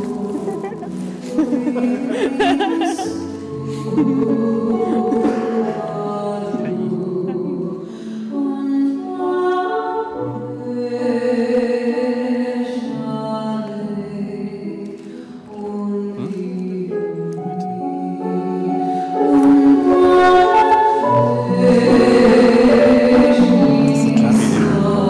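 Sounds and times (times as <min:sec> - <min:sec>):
choir singing long notes: 0:00.0 - 0:14.7, 0:17.7 - 0:25.0.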